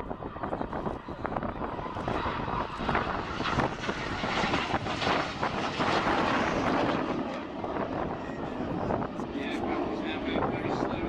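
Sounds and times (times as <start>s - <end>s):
jet roar: 0.0s - 11.0s
wind buffeting microphone: 0.0s - 11.0s.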